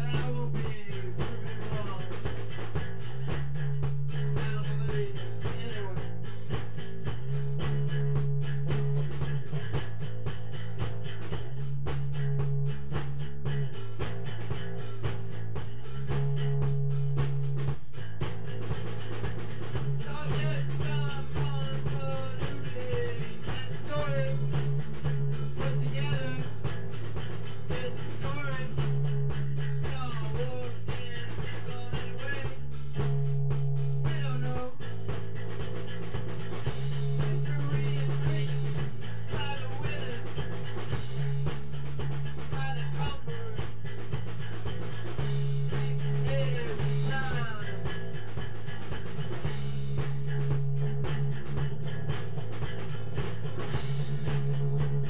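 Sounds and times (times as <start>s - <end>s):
lead guitar line bending: 0.0s - 55.0s
rock band playing: 0.0s - 55.0s.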